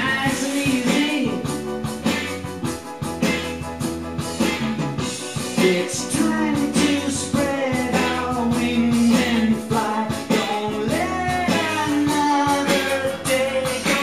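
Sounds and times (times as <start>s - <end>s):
pop song with singing and guitar: 0.0s - 14.0s.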